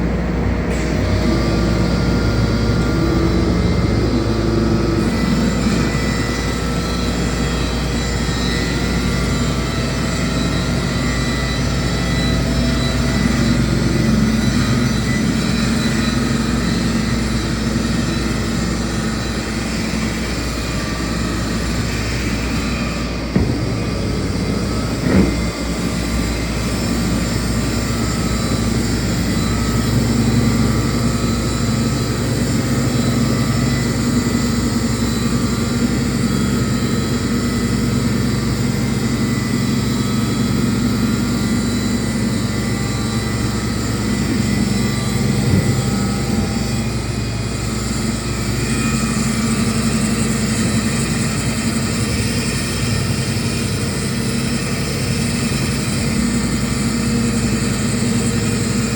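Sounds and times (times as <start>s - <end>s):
cnc router running: 0.0s - 58.9s.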